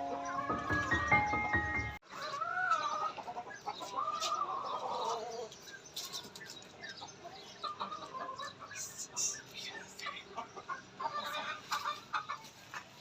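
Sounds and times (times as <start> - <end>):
chickens calling: 0.0 - 13.0
small birds chirping: 0.0 - 13.0.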